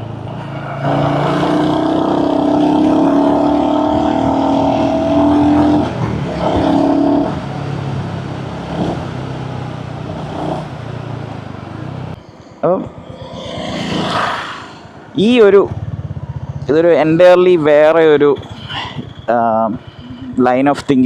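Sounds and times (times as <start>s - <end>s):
motorcycle engine accelerating: 0.6s - 12.2s, 12.8s - 20.4s.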